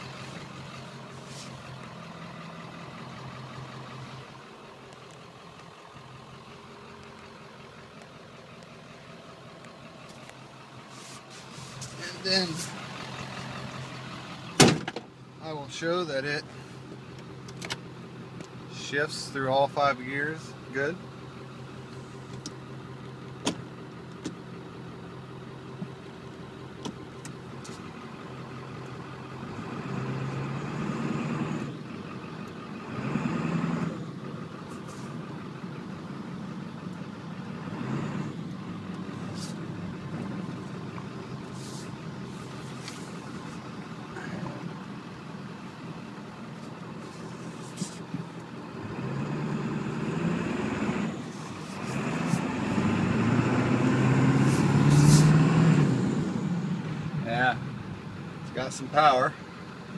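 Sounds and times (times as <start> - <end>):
truck diesel engine accelerating: 0.0 - 59.9.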